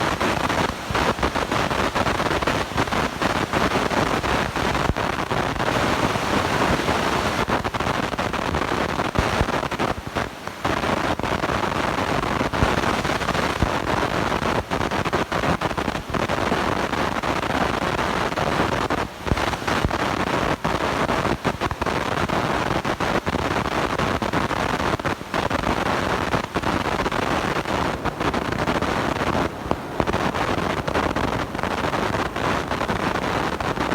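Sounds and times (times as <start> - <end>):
crackling microphone static: 0.0 - 33.9.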